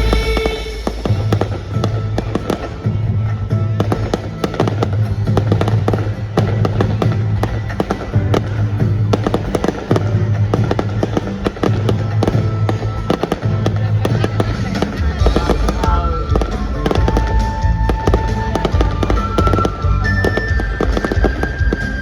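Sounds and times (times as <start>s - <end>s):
fireworks bangs and crackles: 0.0s - 22.0s
music with steady bass line: 0.0s - 22.0s.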